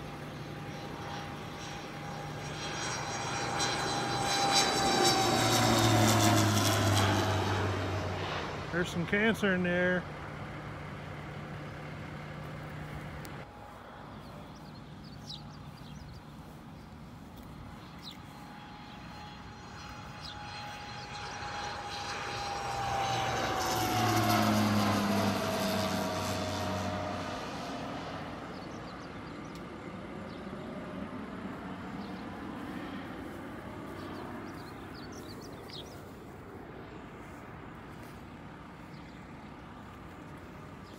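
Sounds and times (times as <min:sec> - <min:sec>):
airplane passing overhead: 0:00.0 - 0:40.9.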